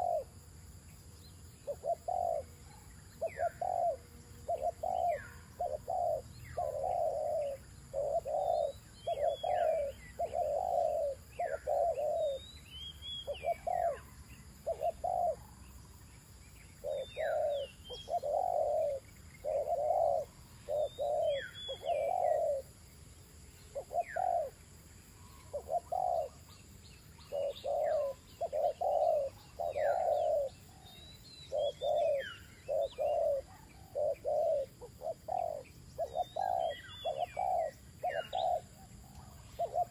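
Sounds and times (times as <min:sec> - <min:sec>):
doves cooing: 0:00.0 - 0:00.3, 0:01.6 - 0:02.6, 0:03.2 - 0:12.4, 0:13.1 - 0:15.4, 0:16.8 - 0:22.7, 0:23.7 - 0:24.7, 0:25.3 - 0:26.5, 0:27.2 - 0:39.9.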